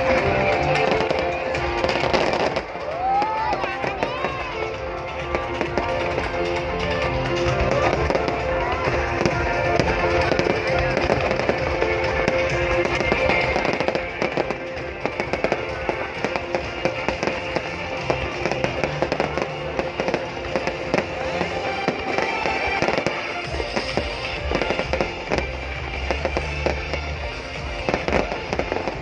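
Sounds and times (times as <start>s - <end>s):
fireworks bangs and crackles: 0.0s - 29.0s
music playing: 0.0s - 29.0s.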